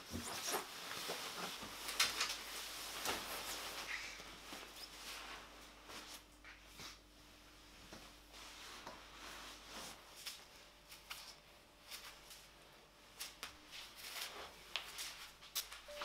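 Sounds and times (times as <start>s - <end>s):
clothing and slippers rustling: 0.0s - 16.0s.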